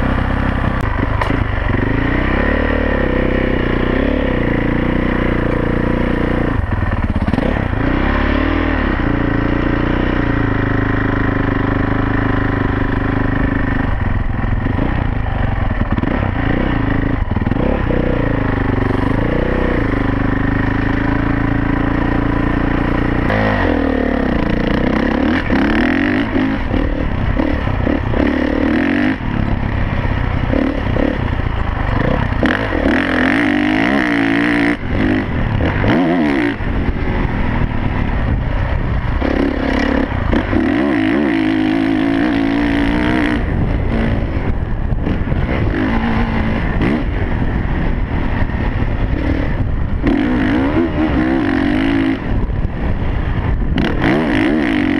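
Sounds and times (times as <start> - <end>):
dirt bike engine revving: 0.0 - 54.9
wind rushing over microphone: 0.0 - 54.9.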